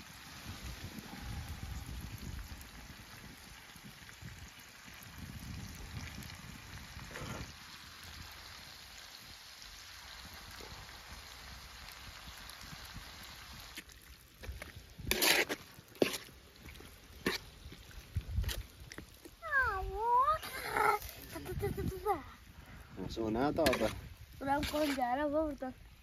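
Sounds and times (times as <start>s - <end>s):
food sizzling in oil: 0.0s - 22.3s, 23.0s - 26.0s.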